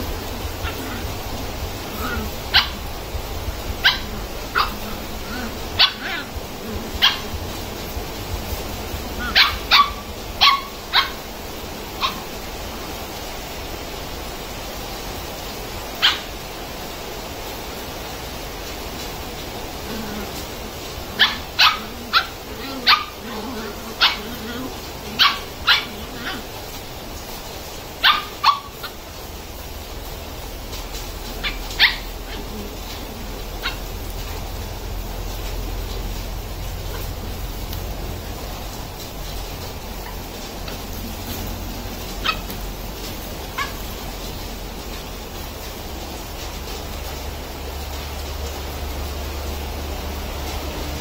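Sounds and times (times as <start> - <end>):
puppies barking and yipping: 0.0 - 13.6, 15.7 - 16.8, 18.6 - 49.6.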